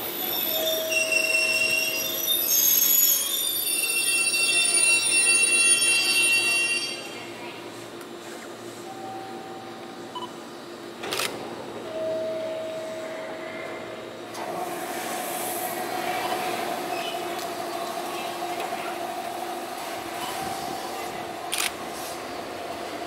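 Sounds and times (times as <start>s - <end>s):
train pulling away: 0.0s - 7.2s, 11.2s - 23.0s
electric train humming: 0.0s - 23.0s.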